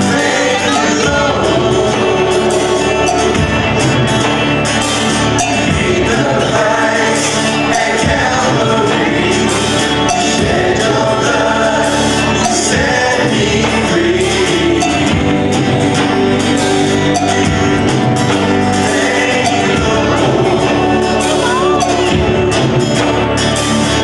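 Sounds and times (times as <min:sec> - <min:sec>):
electric bass: 0:00.0 - 0:24.0
electric guitar: 0:00.0 - 0:24.0
people singing: 0:00.0 - 0:24.0.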